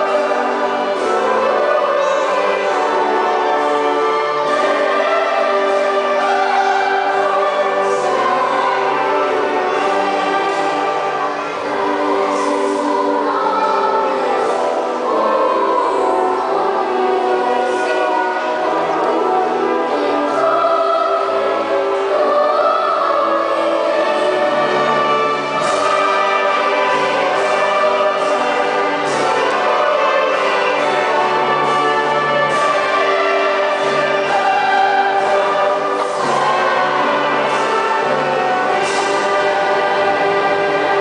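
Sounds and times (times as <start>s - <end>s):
children's choir singing: 0.0s - 41.0s.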